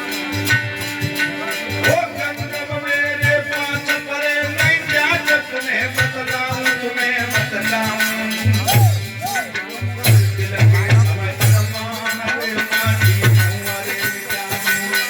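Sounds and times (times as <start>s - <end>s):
drum strokes: 0.0s - 15.0s
jingling percussion: 0.0s - 15.0s.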